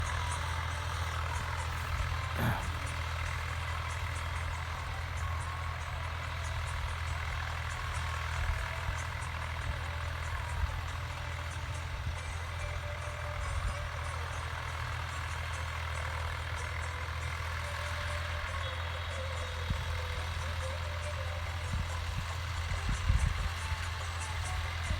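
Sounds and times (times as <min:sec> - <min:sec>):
heavy vehicle engine running: 0:00.0 - 0:24.9.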